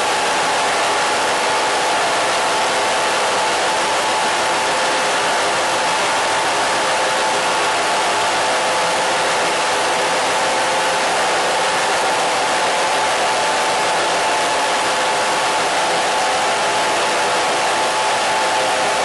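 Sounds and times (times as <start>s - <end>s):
loud static hiss: 0.0s - 19.0s.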